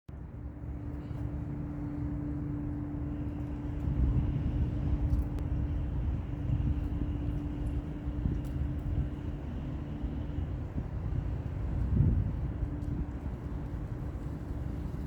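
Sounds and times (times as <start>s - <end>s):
droning hum: 0.1s - 15.0s.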